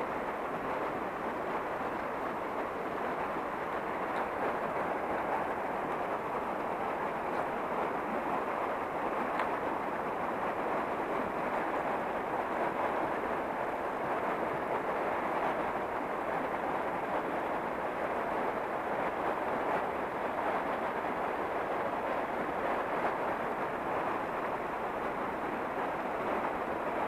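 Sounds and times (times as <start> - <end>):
river water rushing over rapids: 0.0 - 27.0.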